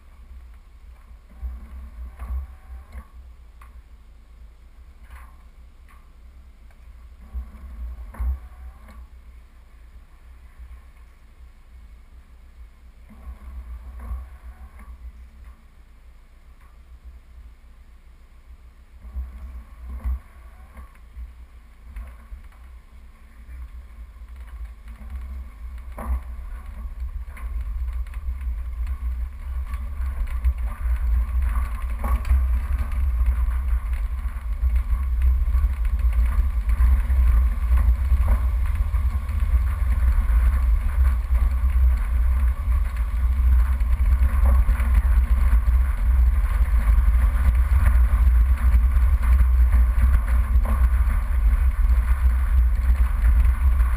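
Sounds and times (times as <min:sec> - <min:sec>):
engine and road rumble: 0:00.0 - 0:53.9.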